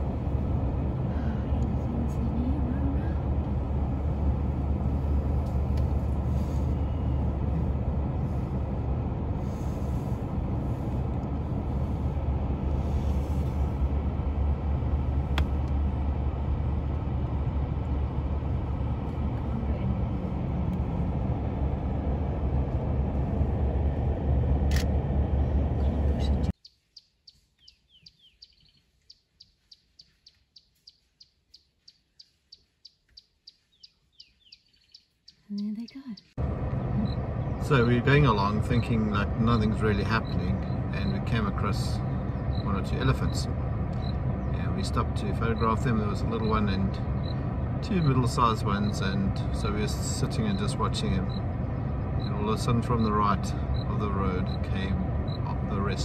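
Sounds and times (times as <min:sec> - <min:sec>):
car driving rumble: 0:00.0 - 0:26.6, 0:35.9 - 0:56.0.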